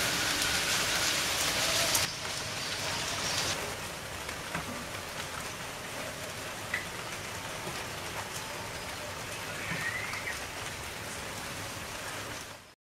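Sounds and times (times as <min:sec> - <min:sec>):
steady rain falling: 0:00.0 - 0:12.8.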